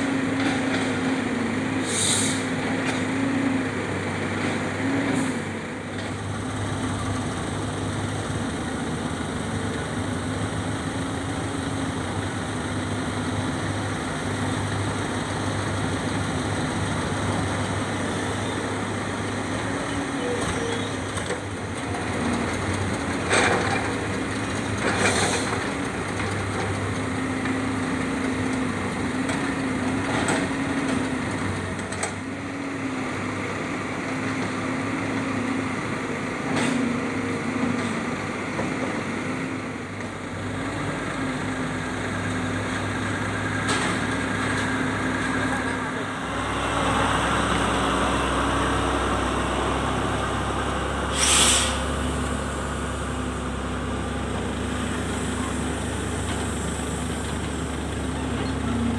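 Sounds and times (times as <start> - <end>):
heavy diesel engines running: 0.0 - 58.9.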